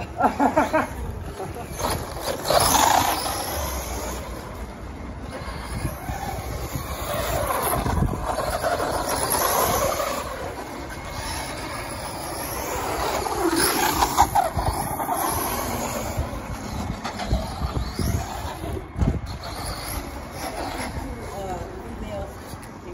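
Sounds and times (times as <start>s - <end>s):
rc truck electric motor: 0.0s - 22.8s.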